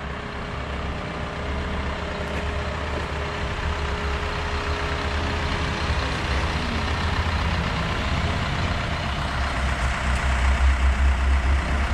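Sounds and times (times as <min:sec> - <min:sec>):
diesel engine idling: 0:00.0 - 0:11.9.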